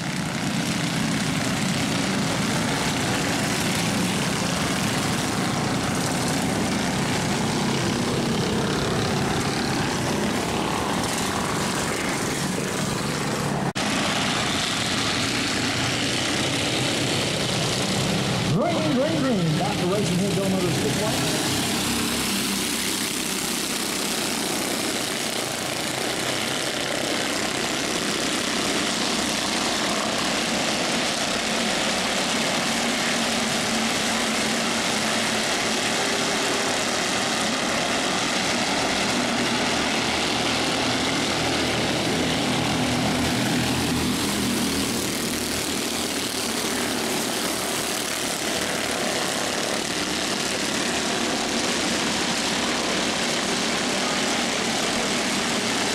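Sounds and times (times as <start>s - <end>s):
race car engines lapping: 0.0s - 55.9s.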